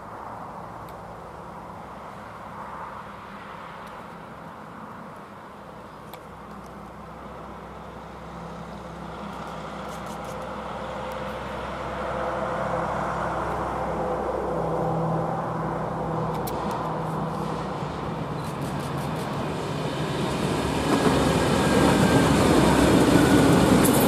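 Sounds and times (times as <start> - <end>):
diesel train engines droning: 4.2 - 24.0.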